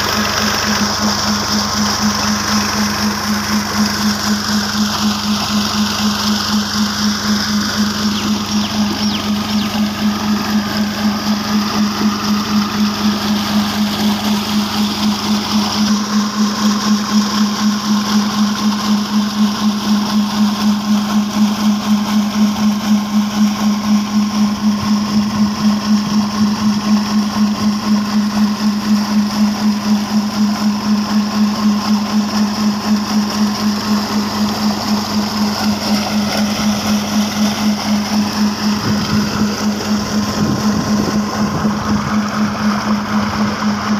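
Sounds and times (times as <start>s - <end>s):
diesel engine running: 0.0s - 43.9s
water gushing from pipe: 0.0s - 43.9s.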